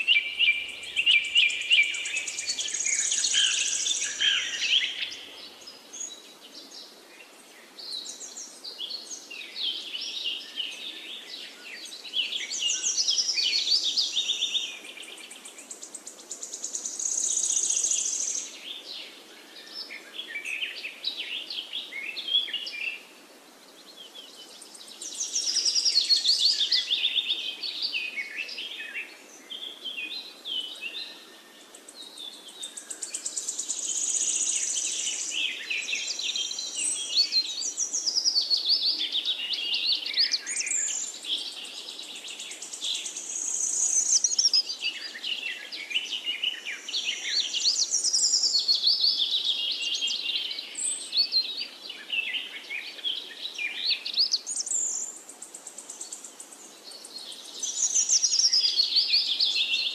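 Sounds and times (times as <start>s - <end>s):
songbirds chorus: 0.0s - 59.9s.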